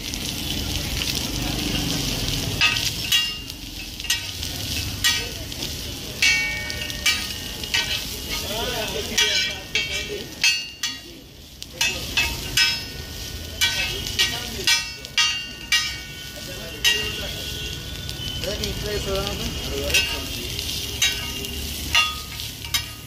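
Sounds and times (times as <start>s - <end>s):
food frying sizzle: 0.0s - 23.0s
metal spatulas clanging on griddle: 1.7s - 17.5s, 19.8s - 23.0s.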